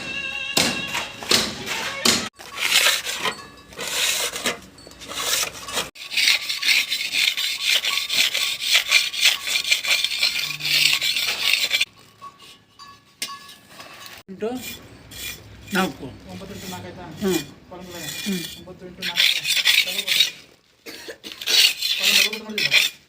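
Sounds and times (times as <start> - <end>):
plastering tool scraping plaster: 1.7 - 11.9, 13.7 - 20.6, 21.2 - 23.0.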